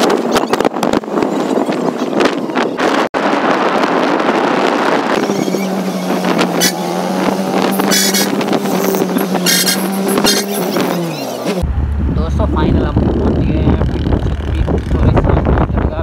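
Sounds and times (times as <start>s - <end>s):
road noise: 0.0s - 16.0s
wind over microphone: 0.0s - 16.0s
engine hum: 2.8s - 16.0s.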